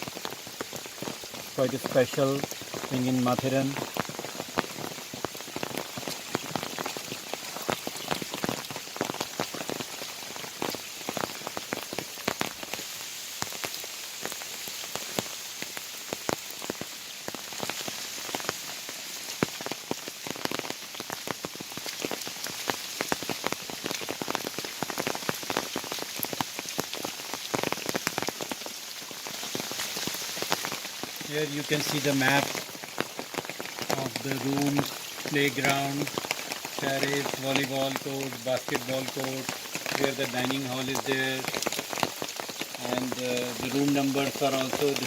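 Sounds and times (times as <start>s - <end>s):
heavy rain: 0.0s - 45.0s
raindrop hits: 0.0s - 45.0s.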